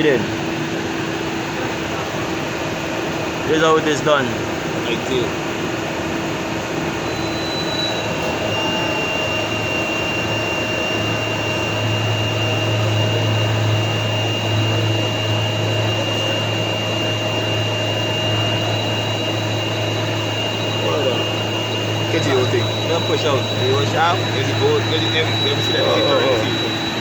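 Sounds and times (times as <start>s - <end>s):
low hum: 0.0s - 27.0s
machine whining tones: 0.0s - 27.0s
metal cutting machine running: 0.0s - 27.0s.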